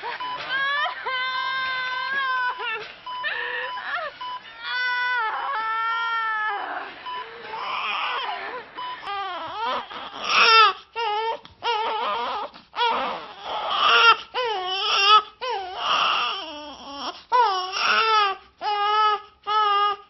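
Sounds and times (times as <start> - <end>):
newborn baby crying: 0.0 - 20.0.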